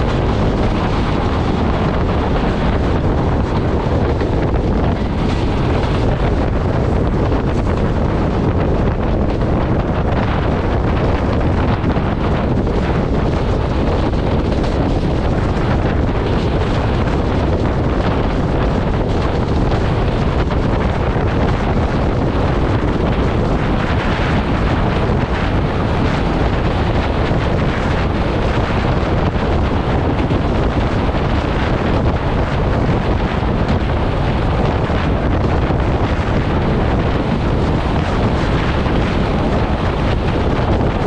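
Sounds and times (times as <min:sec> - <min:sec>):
train coaches rumbling on track: 0:00.0 - 0:41.0
wind rushing over microphone: 0:00.0 - 0:41.0.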